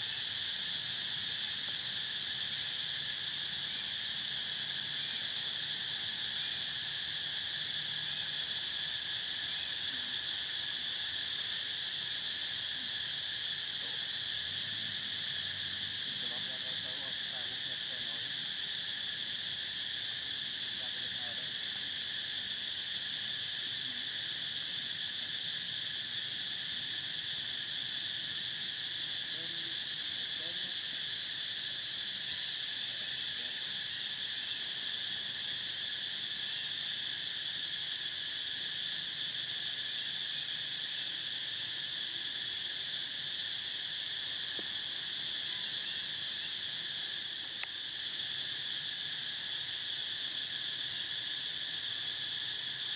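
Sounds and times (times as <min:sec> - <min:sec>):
insect chorus high buzz: 0:00.0 - 0:52.9.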